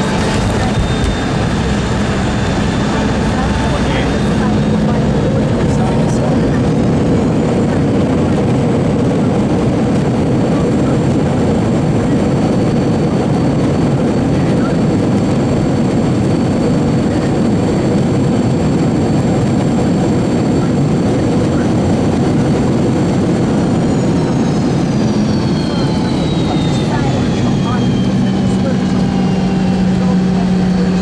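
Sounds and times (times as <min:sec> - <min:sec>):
high engine whine: 0:00.0 - 0:31.0
jet engines rumbling: 0:00.0 - 0:31.0.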